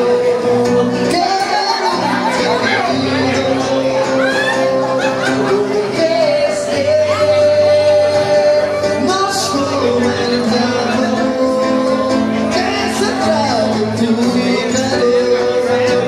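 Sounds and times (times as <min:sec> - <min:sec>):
acoustic guitar: 0:00.0 - 0:16.0
man singing into a microphone: 0:00.0 - 0:16.0.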